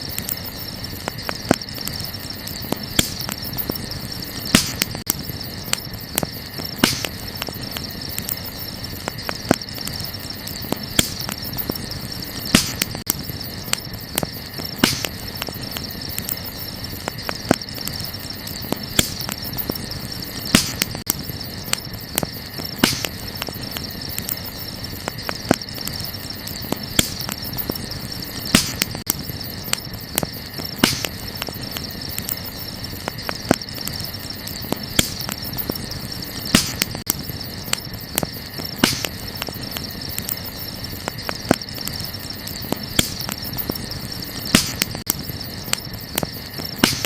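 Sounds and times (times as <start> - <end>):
night insects chorus: 0.0 - 47.0
wood fire crackling: 0.0 - 47.0.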